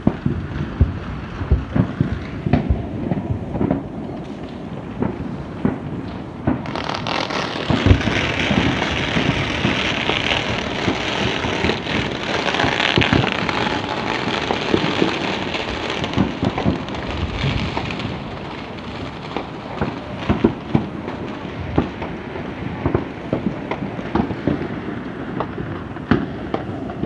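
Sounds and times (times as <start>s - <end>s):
fireworks crackling: 0.0s - 27.0s.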